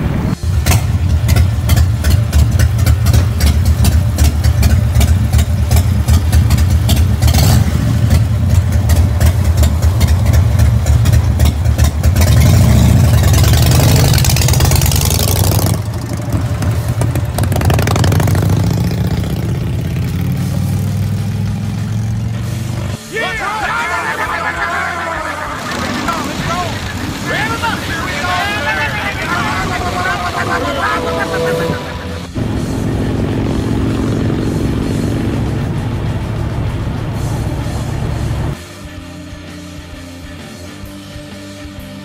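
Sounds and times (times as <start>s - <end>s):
motorcycle engine idling and revving: 0.0s - 23.1s, 24.4s - 42.0s.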